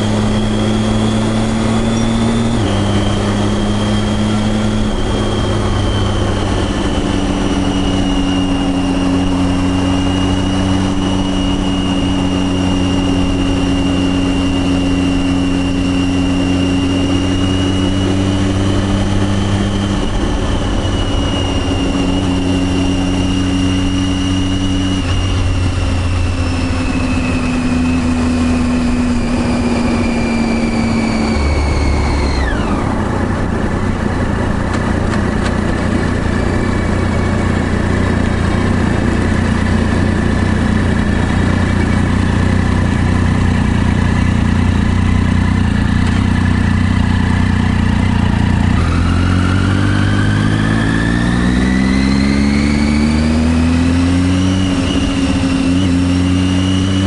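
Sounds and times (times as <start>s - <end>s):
high whine: 0.0s - 57.0s
motorcycle engine running: 0.0s - 57.0s.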